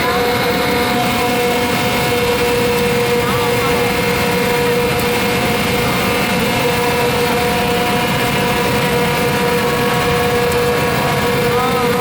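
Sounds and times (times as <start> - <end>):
motor whining: 0.0 - 12.0.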